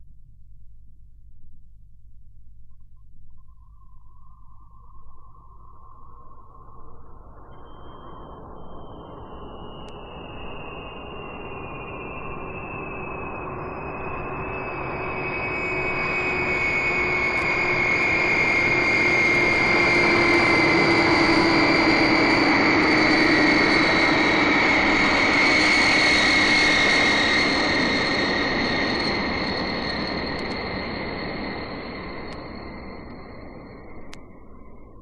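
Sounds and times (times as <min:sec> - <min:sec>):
turboprop airliner engine whine: 0:04.9 - 0:35.0.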